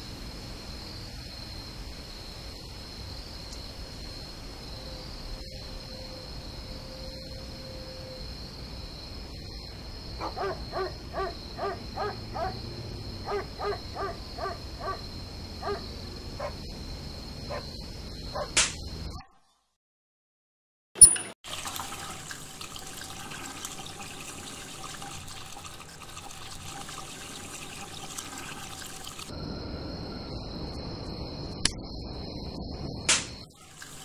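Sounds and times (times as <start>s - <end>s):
crickets chirring: 0.0s - 19.2s, 22.5s - 34.0s.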